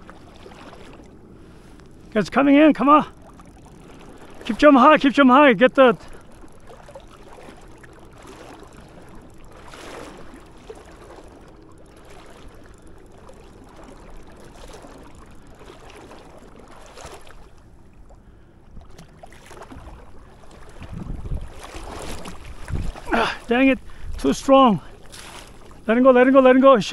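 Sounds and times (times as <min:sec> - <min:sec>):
river water sloshing around legs: 0:00.0 - 0:26.9.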